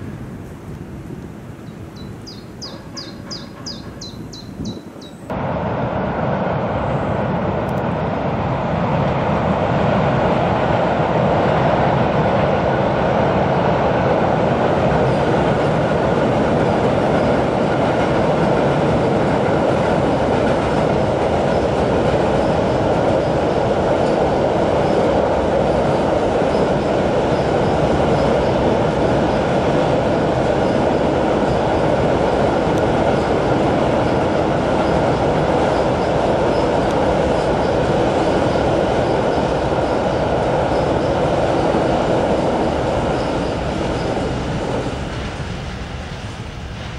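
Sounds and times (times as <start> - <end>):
freight train rolling over bridge: 0.0 - 46.9.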